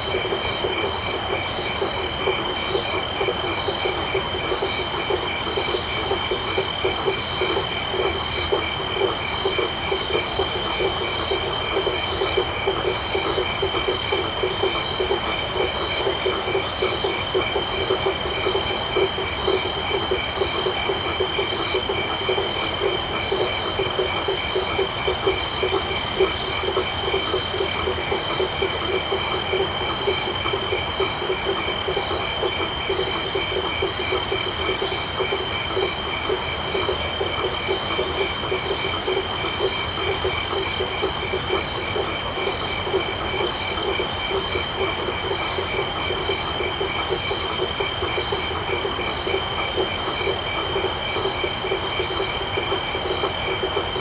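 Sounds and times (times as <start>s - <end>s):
frogs calling: 0.0s - 54.0s
insects trilling: 0.0s - 54.0s.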